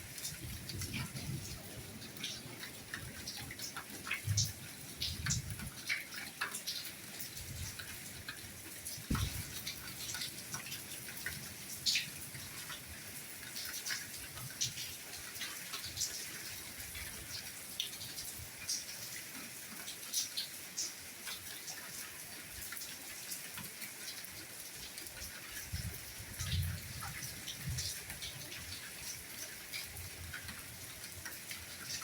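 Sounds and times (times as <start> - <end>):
soft rain falling: 0.0 - 32.0.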